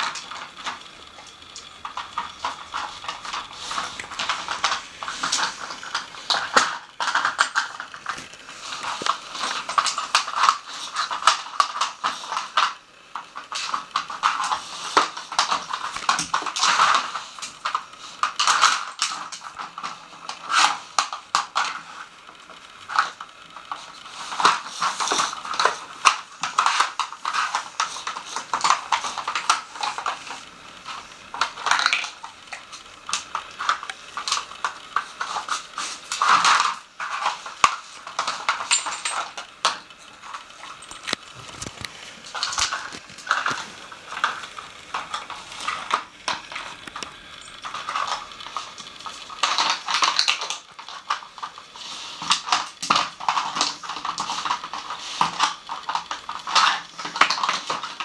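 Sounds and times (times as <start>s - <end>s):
hard plastic clicks and clatters: 0.0s - 58.0s.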